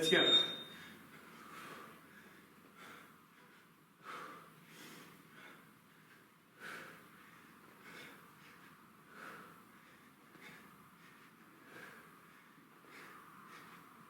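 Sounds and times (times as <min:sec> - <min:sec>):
man breathing hard: 0:00.6 - 0:14.0.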